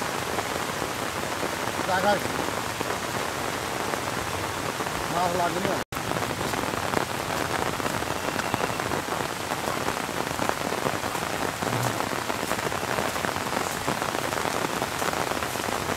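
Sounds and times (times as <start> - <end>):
steady rain falling: 0.0 - 15.9.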